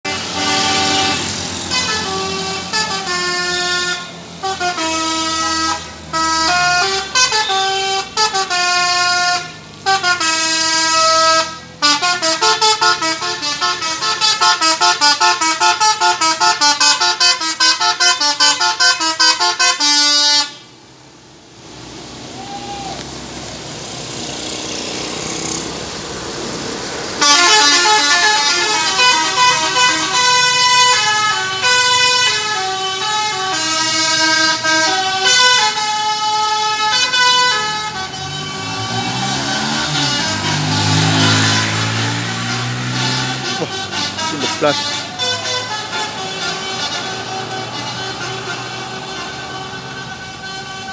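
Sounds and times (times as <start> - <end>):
bus horn playing melodies: 0.0 - 20.8, 27.2 - 50.9
bus engine and road noise: 0.0 - 50.9.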